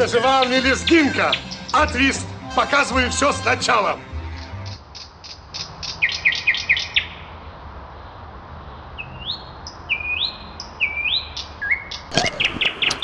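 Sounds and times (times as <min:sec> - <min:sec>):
songbird singing: 0:00.0 - 0:03.4, 0:04.2 - 0:07.2, 0:09.0 - 0:13.0.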